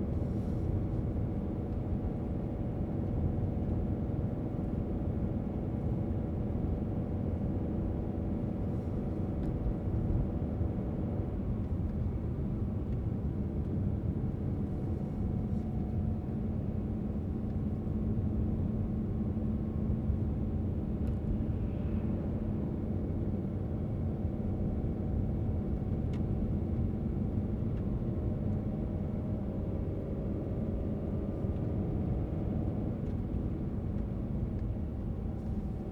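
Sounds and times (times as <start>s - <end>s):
faint engine hum: 0.0s - 35.9s.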